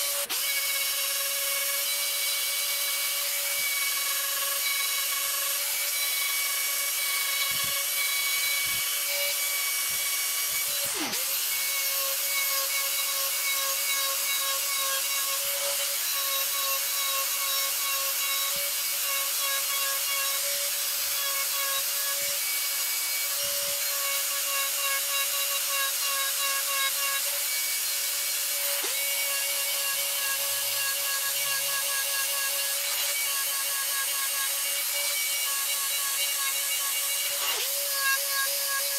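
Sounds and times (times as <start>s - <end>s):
rotary tool motor whine: 0.0s - 38.9s.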